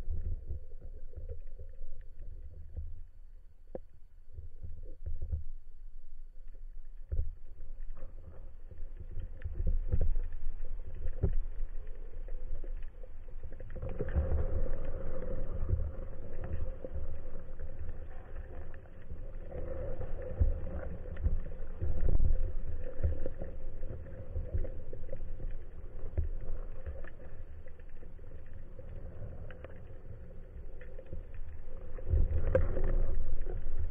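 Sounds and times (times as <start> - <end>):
clicks and crackles: 0.0 - 33.9
low rumbling of water: 0.0 - 33.9.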